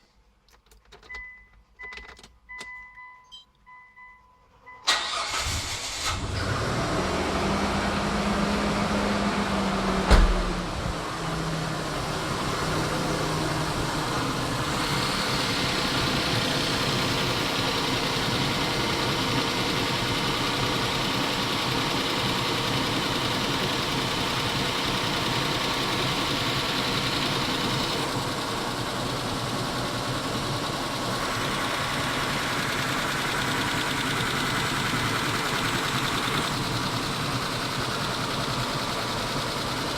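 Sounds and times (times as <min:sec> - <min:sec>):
car engine starting and idling: 0:04.7 - 0:39.9.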